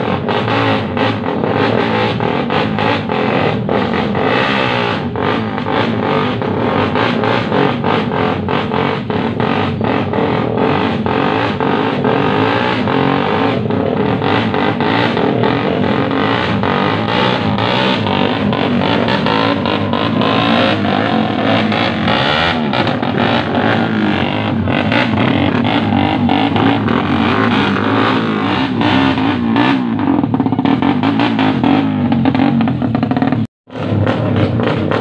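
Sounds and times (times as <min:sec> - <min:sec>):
exhaust popping: 0:00.0 - 0:35.0
motorcycles revving: 0:00.0 - 0:35.0.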